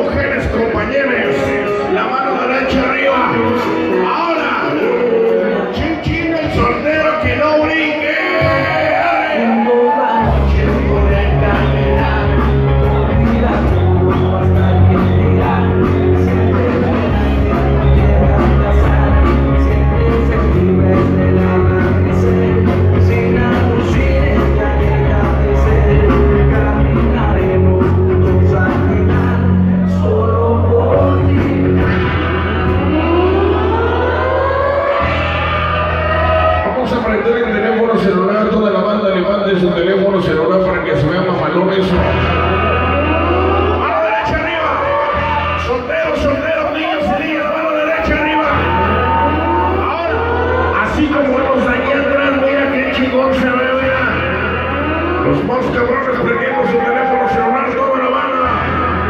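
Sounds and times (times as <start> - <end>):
heavy bass line: 0.0 - 59.0
rock music with singing: 0.0 - 59.0.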